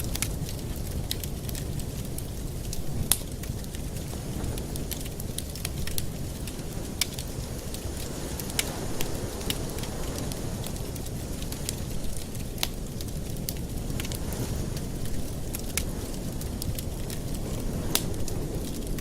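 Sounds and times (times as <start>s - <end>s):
fire crackling in a fireplace: 0.0s - 19.0s.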